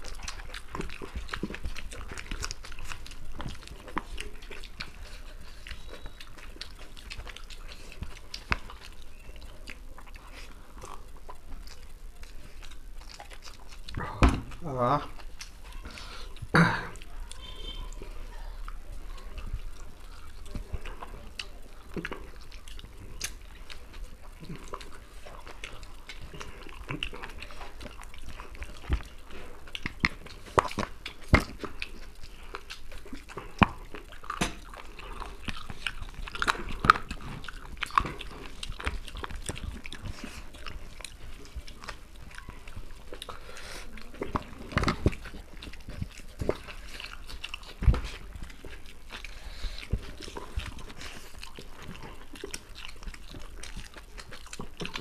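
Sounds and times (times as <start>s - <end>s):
people chewing and smacking: 0.0s - 55.0s
wet mouth clicks: 0.0s - 55.0s.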